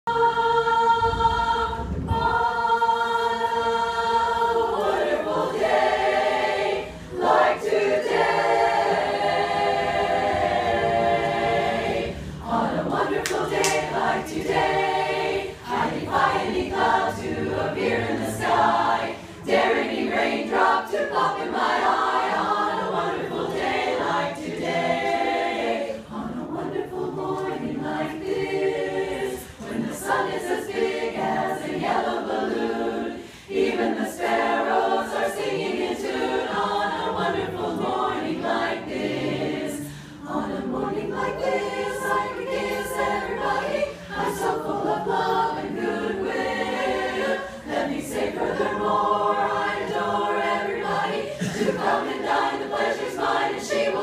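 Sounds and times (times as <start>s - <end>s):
women's chorus singing a cappella: 0.0s - 54.0s.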